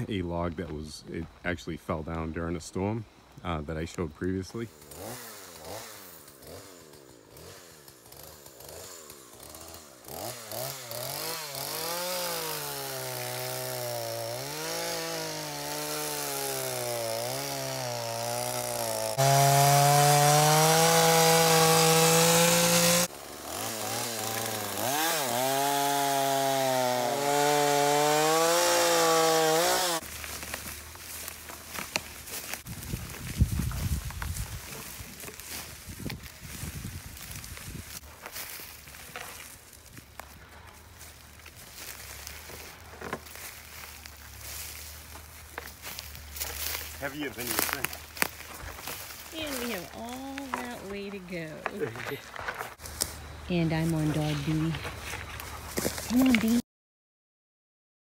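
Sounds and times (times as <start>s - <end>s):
chainsaw cutting wood: 4.5s - 56.6s.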